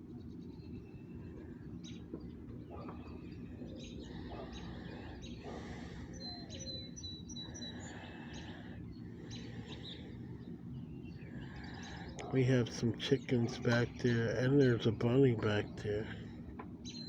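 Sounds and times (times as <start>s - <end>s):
low background rumble: 0.0s - 17.0s
songbirds chirping: 0.0s - 17.0s.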